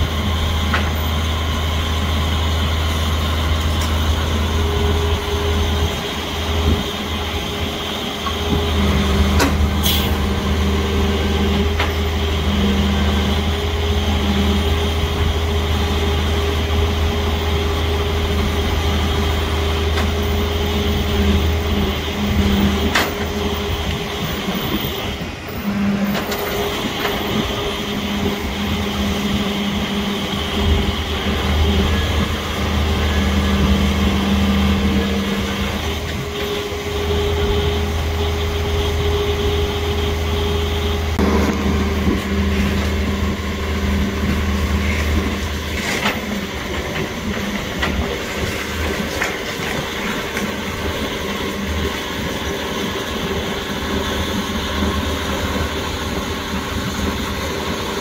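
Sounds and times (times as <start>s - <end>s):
diesel engine running: 0.0s - 58.0s
winch hum: 0.0s - 58.0s.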